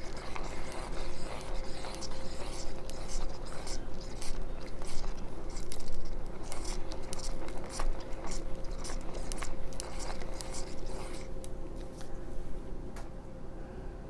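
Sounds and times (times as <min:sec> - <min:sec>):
coffee grinder crunching nibs: 0:00.0 - 0:11.9.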